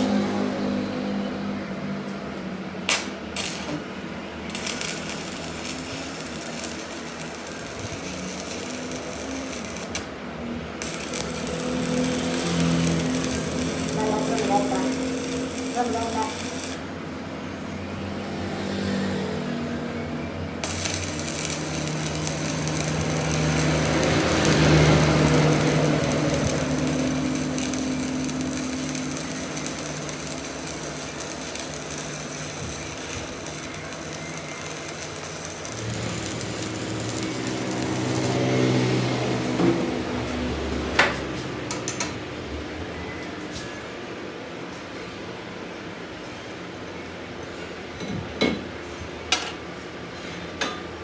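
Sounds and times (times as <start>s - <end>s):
workshop machinery humming: 0.0s - 51.0s.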